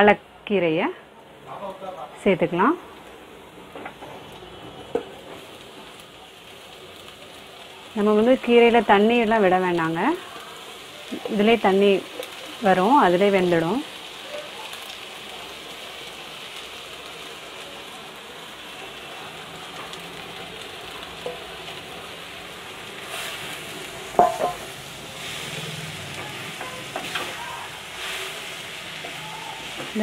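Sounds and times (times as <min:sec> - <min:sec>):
spinach sizzling in oil: 0:00.0 - 0:30.0.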